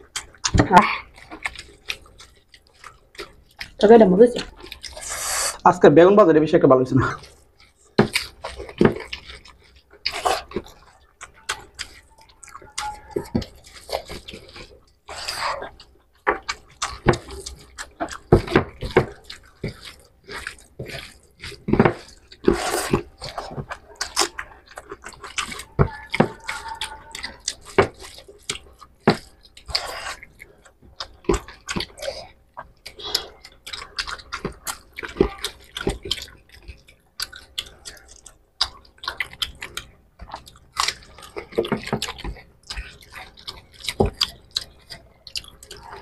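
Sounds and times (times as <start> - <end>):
chewing and lip smacks: 0.0 - 5.6, 7.1 - 46.0
hands squelching food: 0.0 - 5.8, 6.8 - 46.0.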